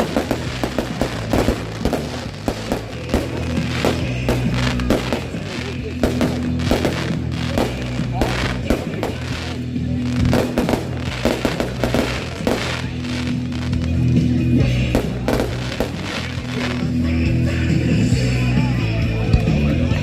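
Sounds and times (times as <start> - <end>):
fireworks bangs and crackles: 0.0 - 18.2
music with low held notes: 0.0 - 20.0.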